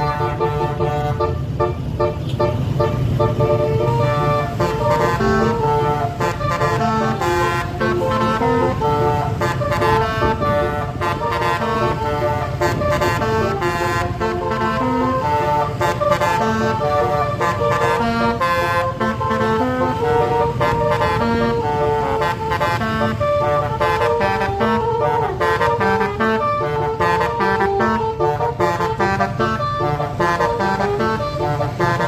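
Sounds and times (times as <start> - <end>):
bus air horn playing a tune: 0.0 - 32.0.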